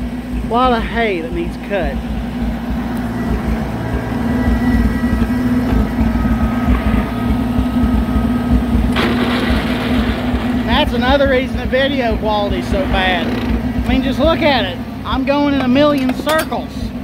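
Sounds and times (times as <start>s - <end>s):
tractor engine rumbling: 0.0s - 17.0s.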